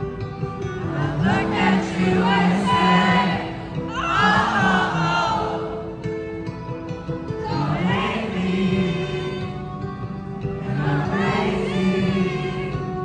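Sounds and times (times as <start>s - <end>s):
person singing slow song: 0.8s - 6.0s, 7.4s - 13.0s.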